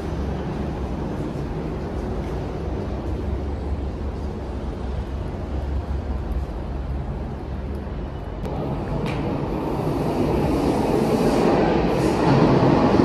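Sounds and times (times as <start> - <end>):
low rumble of underground station: 0.0 - 13.0
train approaching platform: 0.0 - 13.0.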